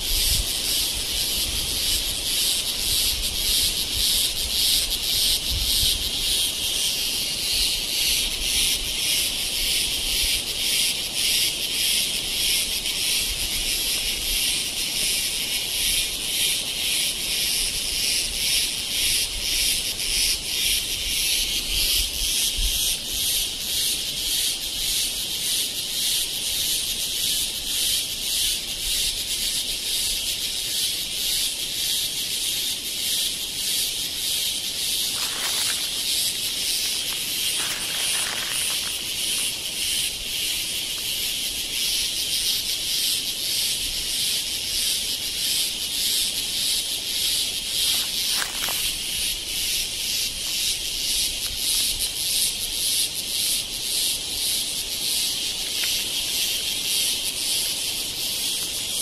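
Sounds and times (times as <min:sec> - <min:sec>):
cicadas buzzing in chorus: 0:00.0 - 0:59.0.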